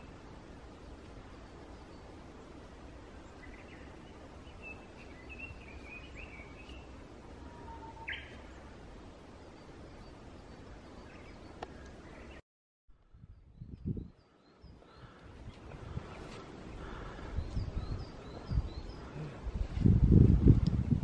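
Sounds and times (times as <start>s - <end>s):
songbirds chirping: 0.0s - 12.4s, 13.2s - 19.8s.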